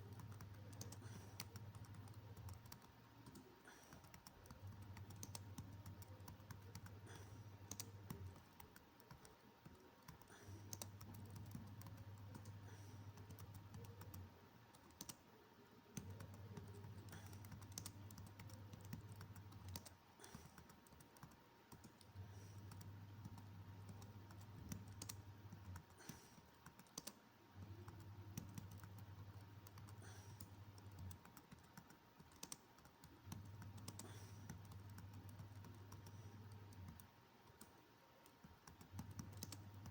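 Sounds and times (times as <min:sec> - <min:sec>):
computer keyboard typing: 0:00.0 - 0:15.2, 0:15.9 - 0:39.9.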